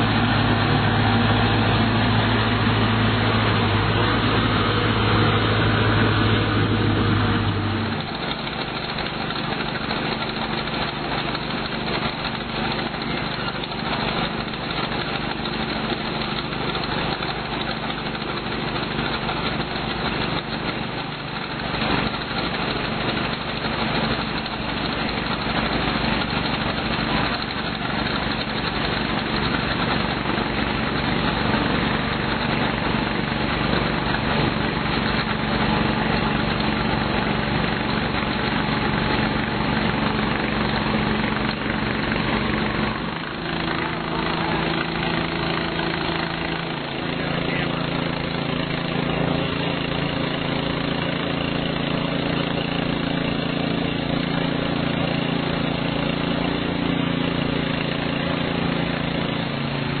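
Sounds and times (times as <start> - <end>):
engine running steadily: 0.0 - 60.0.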